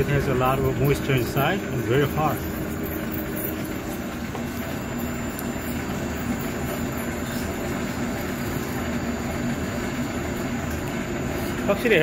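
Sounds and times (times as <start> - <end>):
machine hum and rumble: 0.0 - 12.0.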